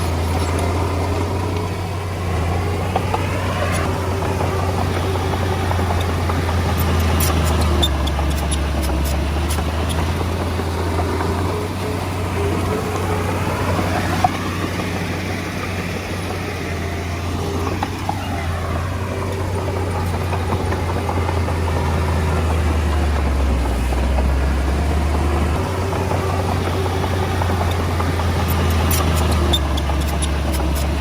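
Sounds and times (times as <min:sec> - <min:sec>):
bulldozer engine droning: 0:00.0 - 0:31.0.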